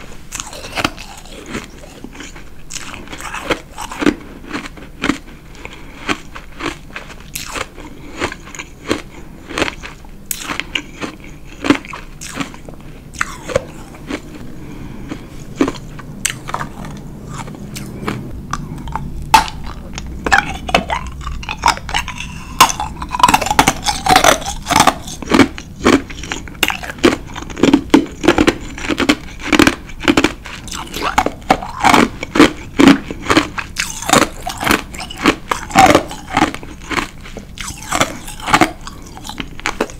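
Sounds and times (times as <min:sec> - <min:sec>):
ice being chewed: 0:00.3 - 0:39.9.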